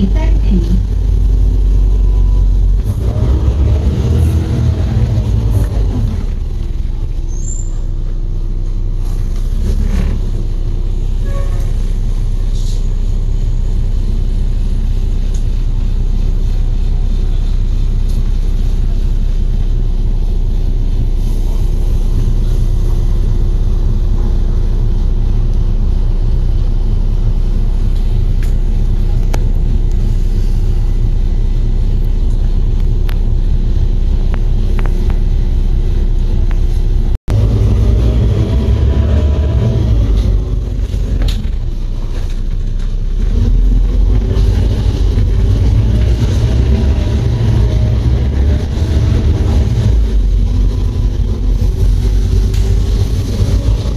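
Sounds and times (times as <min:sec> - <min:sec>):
bus engine rumbling: 0:00.0 - 0:53.9.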